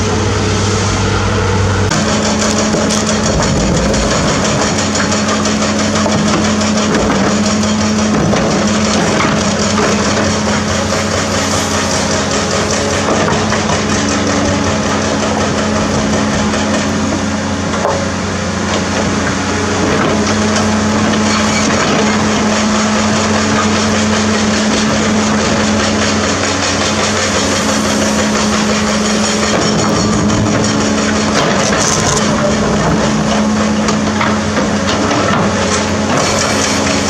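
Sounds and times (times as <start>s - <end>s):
excavator diesel engine running: 0.0s - 37.0s
rocks grinding against bucket: 1.9s - 37.0s.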